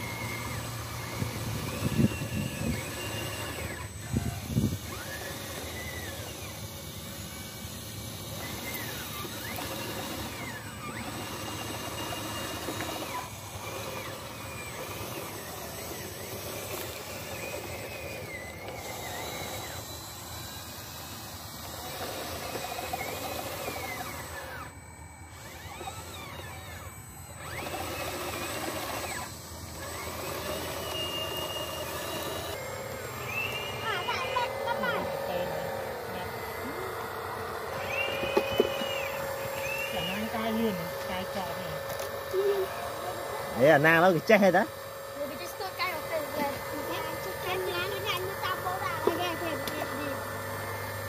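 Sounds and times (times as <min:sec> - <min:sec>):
small electric motors whining: 0:00.0 - 0:51.0.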